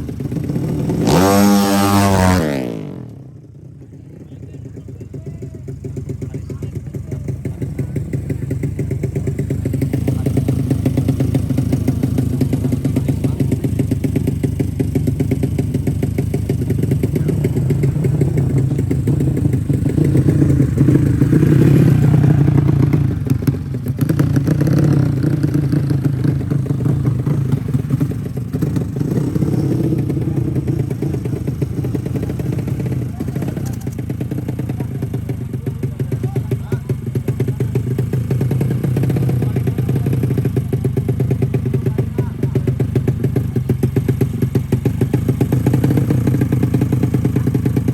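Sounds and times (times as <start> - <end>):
motorcycle engines running: 0.0 - 47.9.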